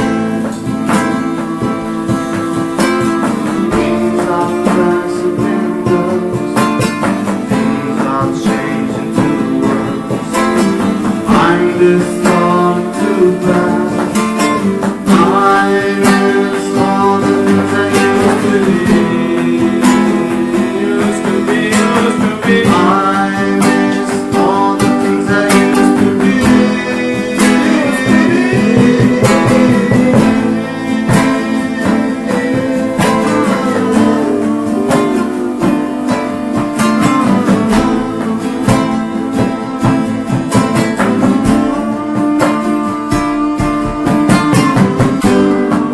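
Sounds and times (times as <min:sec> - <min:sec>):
drums: 0:00.0 - 0:45.9
lead guitar melody: 0:00.0 - 0:45.9
rock guitars: 0:00.0 - 0:45.9.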